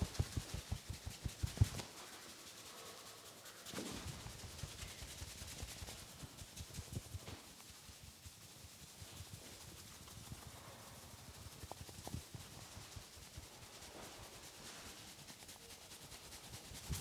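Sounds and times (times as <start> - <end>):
soft patting on head: 0.0 - 2.4, 3.6 - 17.0
hands rubbing hair and scalp: 0.0 - 17.0.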